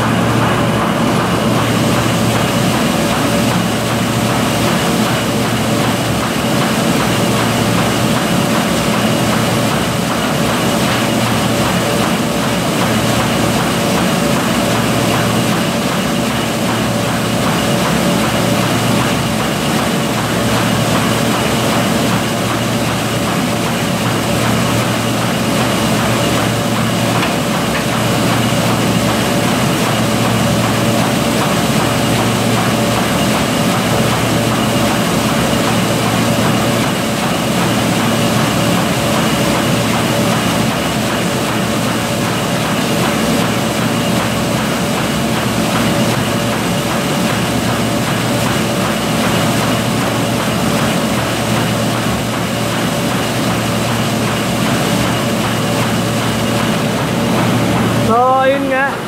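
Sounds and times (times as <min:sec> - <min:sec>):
envelope machine droning: 0:00.0 - 0:59.0.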